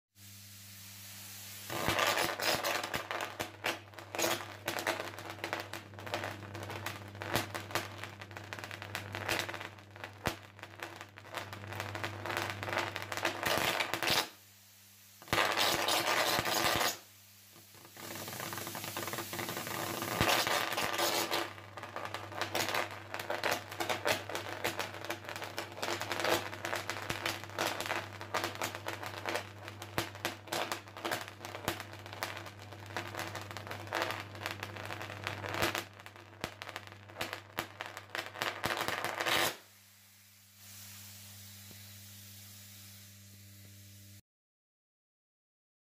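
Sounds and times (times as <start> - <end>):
electric arc crackling: 0.2 - 44.2.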